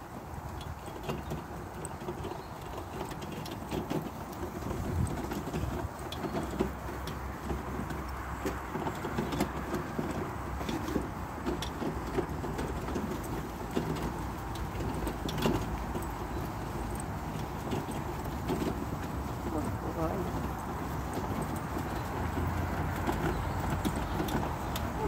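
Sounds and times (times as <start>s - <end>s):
cart wheels rumbling: 0.0s - 25.0s
harness and hooves clicking: 0.0s - 25.0s.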